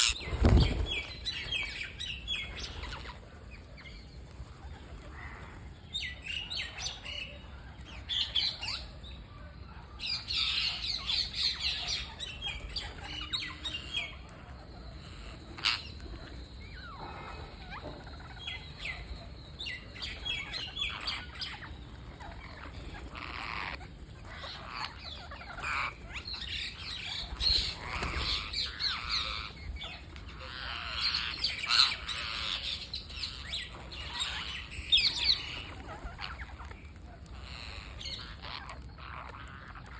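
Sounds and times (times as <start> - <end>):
parrots chirping and squawking: 0.0 - 3.9, 10.2 - 16.2, 16.8 - 39.9.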